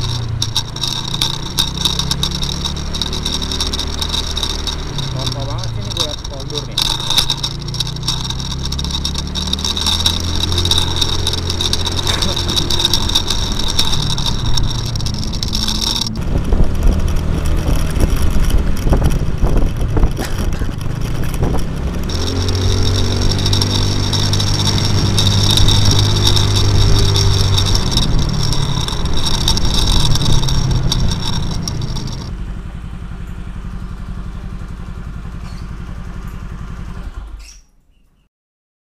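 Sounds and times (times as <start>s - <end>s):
scooter engine running: 0.0s - 37.4s.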